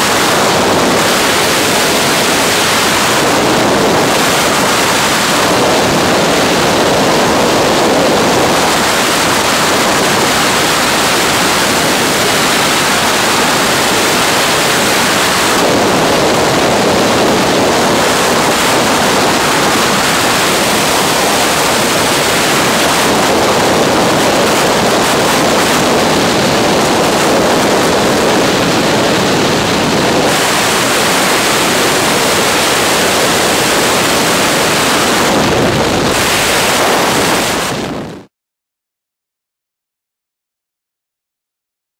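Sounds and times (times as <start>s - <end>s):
freefall wind rushing over microphone: 0.0s - 38.3s.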